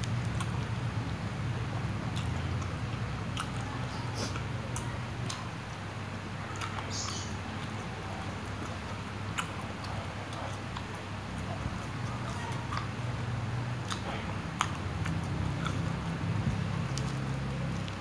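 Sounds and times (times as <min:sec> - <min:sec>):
mouth chewing sounds: 0:00.0 - 0:18.0
steady low hum: 0:00.0 - 0:18.0.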